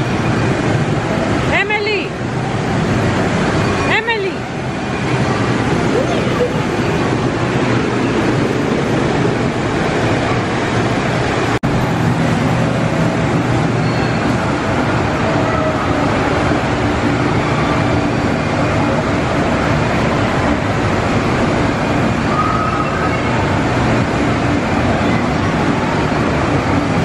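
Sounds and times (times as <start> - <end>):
amusement rides rumbling: 0.0 - 27.0.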